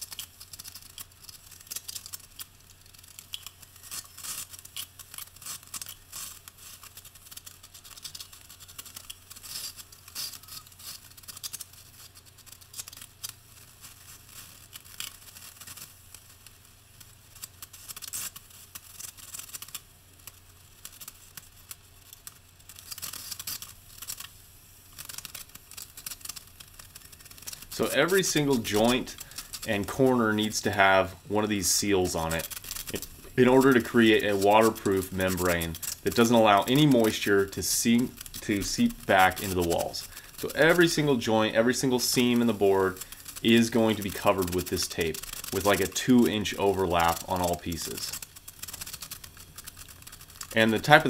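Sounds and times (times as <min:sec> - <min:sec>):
membrane strip crinkling: 0:00.0 - 0:51.0.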